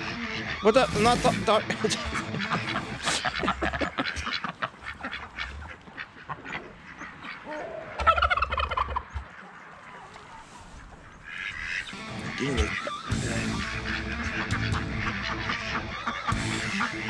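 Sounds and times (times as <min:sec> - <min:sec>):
fowl calling: 0:00.0 - 0:17.0.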